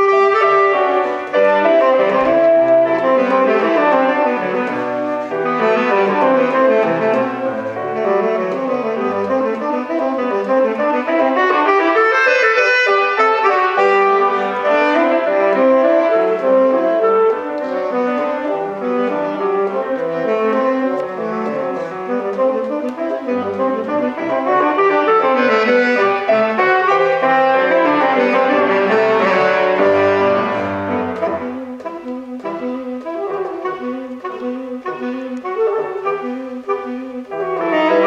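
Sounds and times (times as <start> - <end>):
piano accompaniment: 0.0 - 38.0
tenor saxophone running notes: 0.0 - 38.0.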